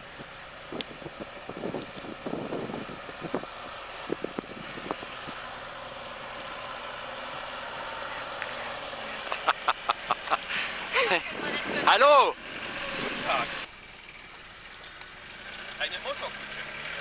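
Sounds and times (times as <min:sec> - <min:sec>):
vintage car engine running: 0:00.0 - 0:17.0.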